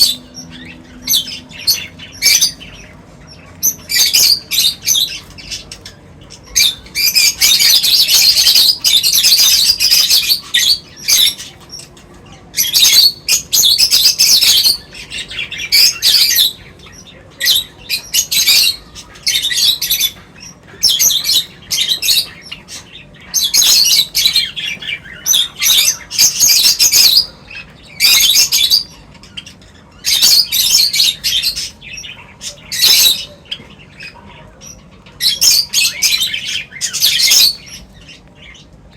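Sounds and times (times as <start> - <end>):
birds chirping and chattering: 0.0 - 38.9.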